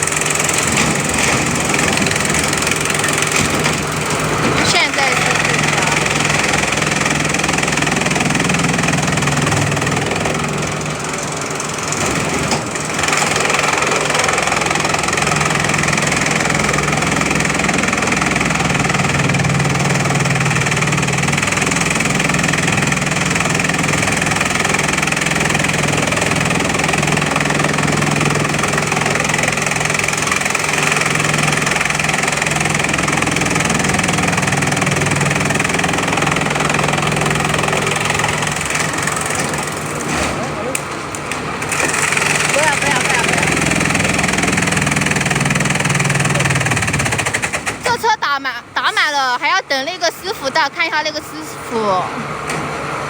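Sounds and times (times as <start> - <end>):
chipping machine droning: 0.0 - 53.0.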